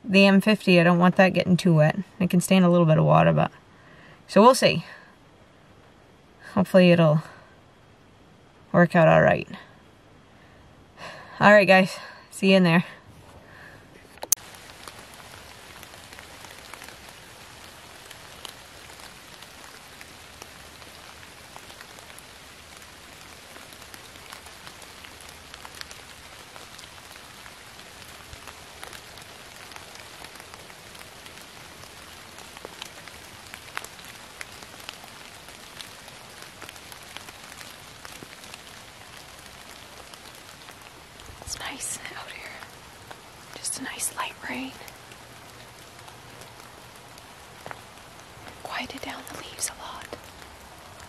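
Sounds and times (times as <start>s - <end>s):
rain falling on leaves: 0.0s - 51.0s.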